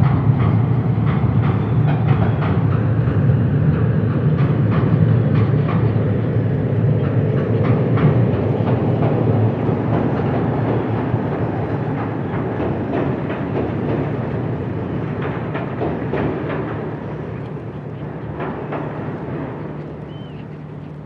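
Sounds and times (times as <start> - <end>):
train rumbling on rails: 0.0 - 21.0
wheels clicking and clanking: 0.0 - 21.0.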